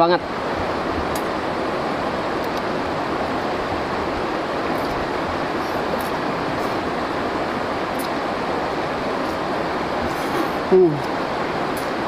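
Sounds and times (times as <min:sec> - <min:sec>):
rocky stream rushing: 0:00.0 - 0:12.0.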